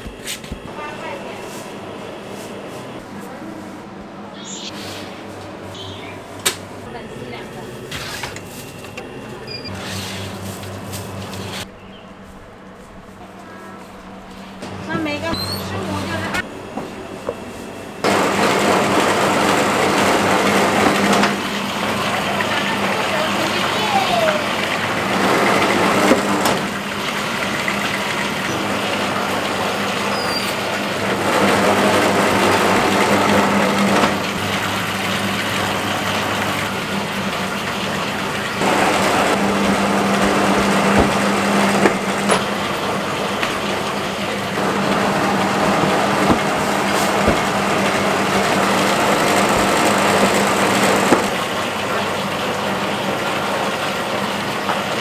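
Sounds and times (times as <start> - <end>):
dough sheeter motor humming: 0.0 - 55.0.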